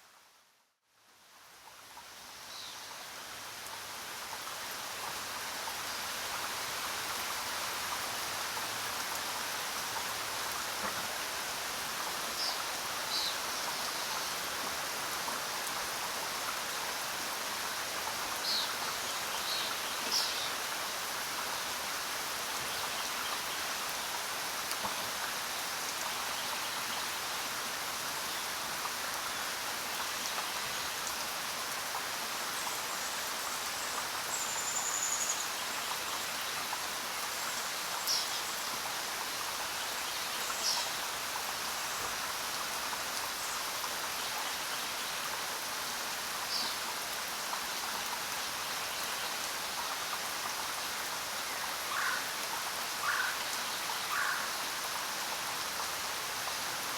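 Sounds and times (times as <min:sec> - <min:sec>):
heavy rain on foliage: 0:00.0 - 0:56.9.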